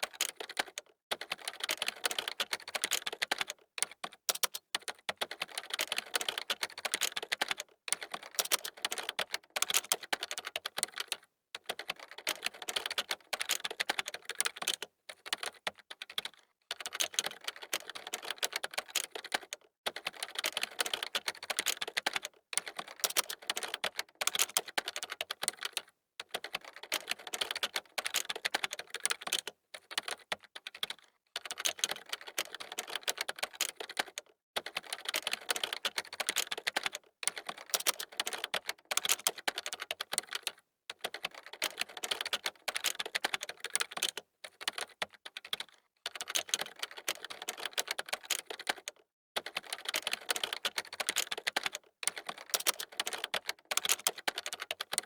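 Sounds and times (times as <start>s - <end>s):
fast keyboard typing: 0.0s - 55.0s.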